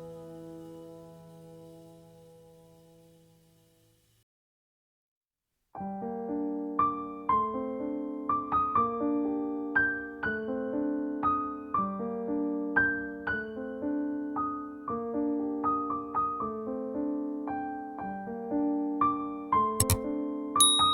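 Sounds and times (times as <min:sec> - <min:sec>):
gentle piano music: 0:00.0 - 0:03.5, 0:05.8 - 0:20.9.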